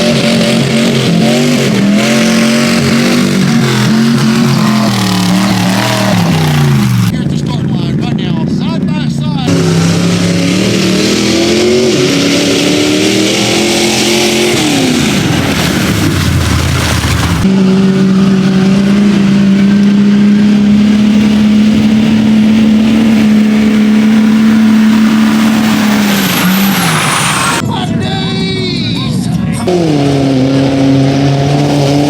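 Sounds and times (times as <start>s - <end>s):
off-road vehicle engine revving: 0.0s - 27.6s, 29.1s - 32.0s.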